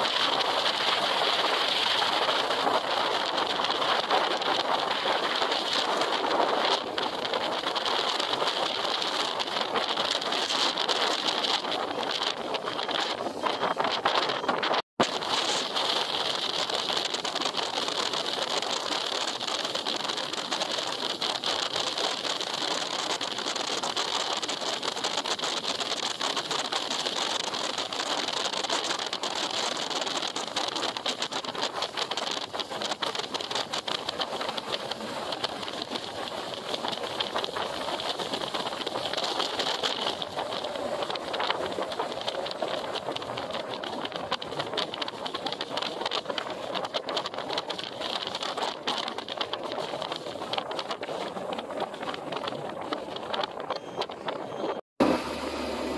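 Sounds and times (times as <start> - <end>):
moving motorcycle engine: 0.0 - 55.9.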